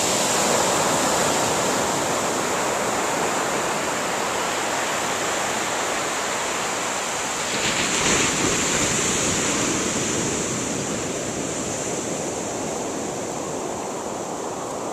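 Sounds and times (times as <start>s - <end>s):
ocean surf washing on sand: 0.0s - 14.9s.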